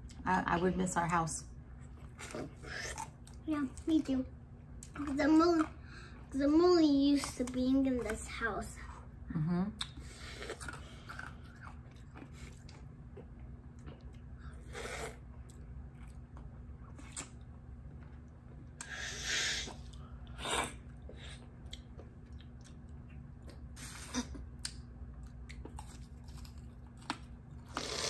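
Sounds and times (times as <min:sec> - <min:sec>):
chewing and crunching popsicle: 0:01.8 - 0:09.0, 0:09.8 - 0:18.9, 0:19.7 - 0:28.0.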